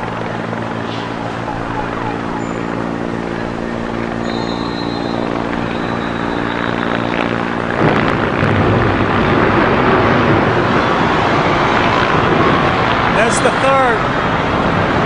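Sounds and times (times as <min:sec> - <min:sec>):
helicopter flying: 0:00.0 - 0:15.0
loud rushing noise: 0:00.0 - 0:15.0.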